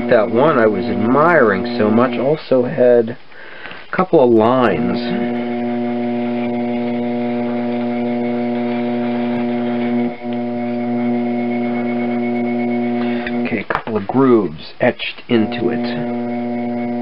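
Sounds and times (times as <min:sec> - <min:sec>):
low droning hum: 0:00.0 - 0:02.8, 0:04.3 - 0:14.5, 0:15.3 - 0:17.0.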